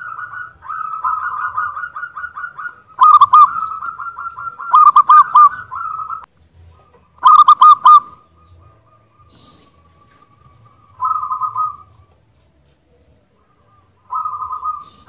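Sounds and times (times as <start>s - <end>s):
dove ringing notes: 0.0s - 12.4s, 13.3s - 15.0s.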